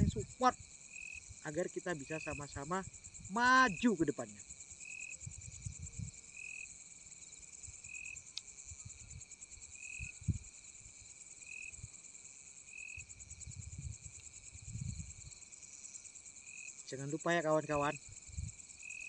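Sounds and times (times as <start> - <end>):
crickets trilling: 0.0 - 19.0
insect short chirp: 0.0 - 19.0.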